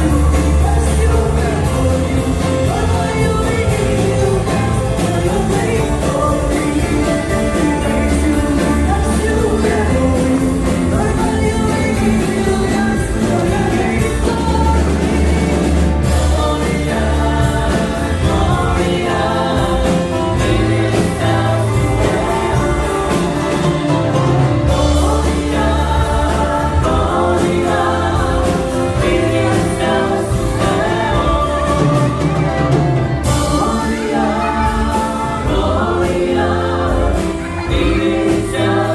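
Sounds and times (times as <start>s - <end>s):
amplified band with steady beat: 0.0s - 38.9s
group singing a christian song: 0.0s - 38.9s.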